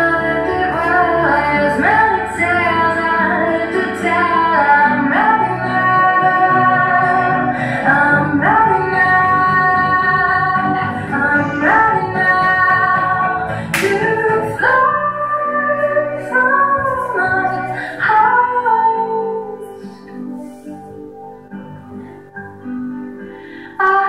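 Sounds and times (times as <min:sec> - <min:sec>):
woman singing slow song: 0:00.0 - 0:20.9, 0:23.6 - 0:24.0
steady musical accompaniment: 0:00.0 - 0:24.0.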